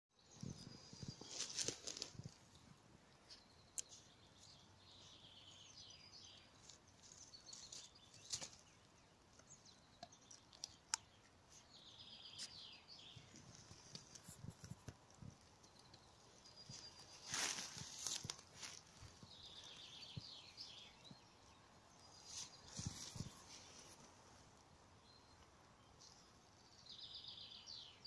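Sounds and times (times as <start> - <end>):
faint songbird song: 0.1 - 28.0.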